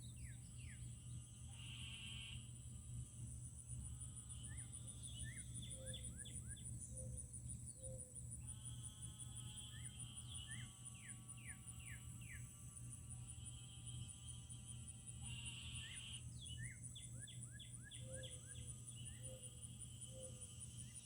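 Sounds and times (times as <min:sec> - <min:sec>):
high fast-pulsing insect trill: 0:00.1 - 0:06.5, 0:08.4 - 0:21.0.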